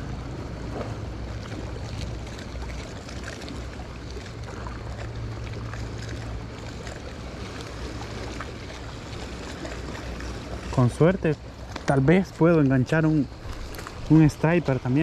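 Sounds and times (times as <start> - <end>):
low steady drone: 0.0 - 15.0
water lapping: 0.0 - 15.0.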